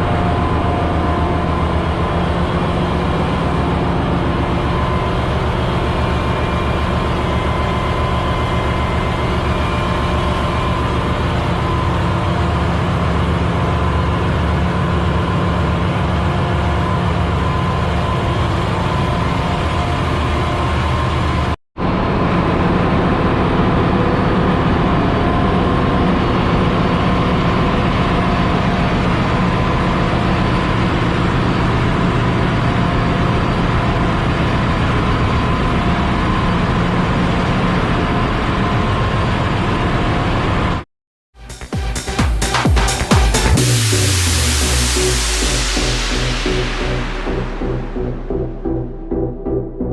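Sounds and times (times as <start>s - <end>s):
engine room machinery drone: 0.0s - 49.9s.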